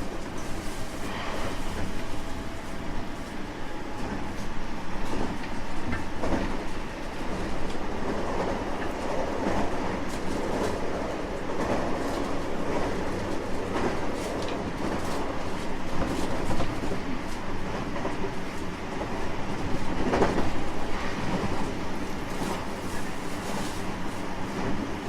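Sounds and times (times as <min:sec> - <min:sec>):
rail joint clacks: 0:00.0 - 0:25.0
train wheels rumbling on rail: 0:00.0 - 0:25.0.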